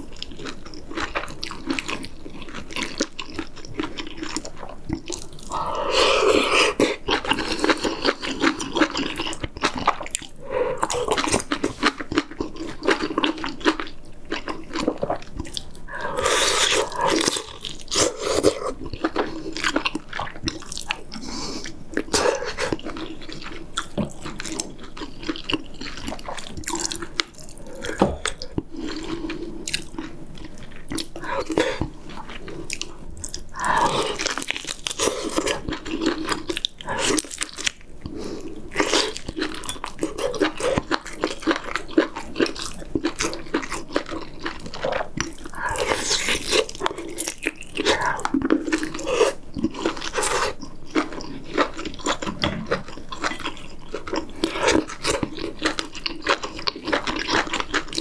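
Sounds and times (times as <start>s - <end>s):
person chewing with wet smacking: 0.0s - 58.0s.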